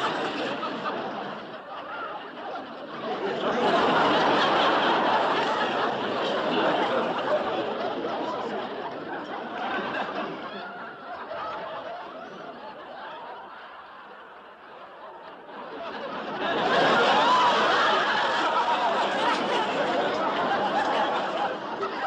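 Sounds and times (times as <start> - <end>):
people laughing and giggling: 0.0 - 22.0.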